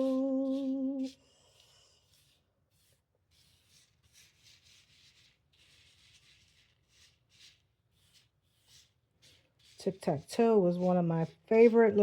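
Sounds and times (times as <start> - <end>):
brush swishing: 0.0 - 12.0.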